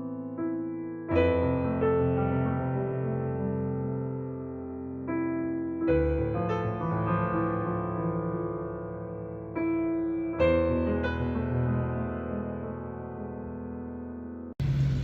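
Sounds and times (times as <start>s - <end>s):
slow piano chords: 0.0s - 14.6s.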